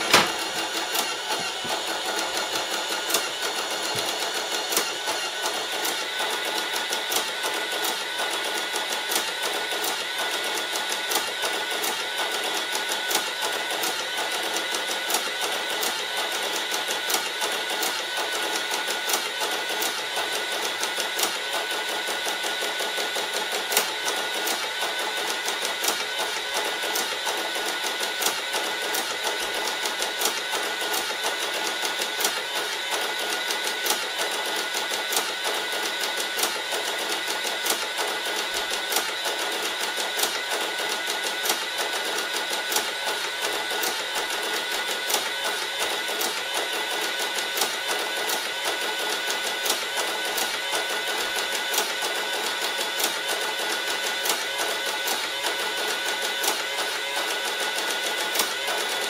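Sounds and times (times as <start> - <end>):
receipt printer printing: 0.0 - 59.0.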